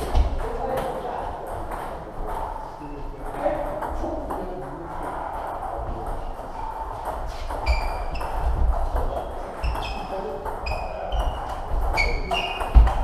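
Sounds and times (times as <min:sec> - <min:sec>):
clatter of play at other tables: 0:00.0 - 0:13.0.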